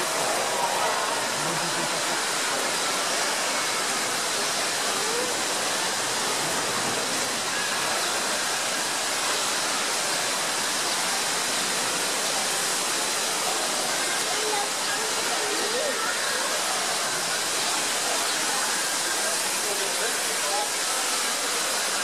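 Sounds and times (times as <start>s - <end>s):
pressure washer water jet hiss: 0.0s - 22.0s.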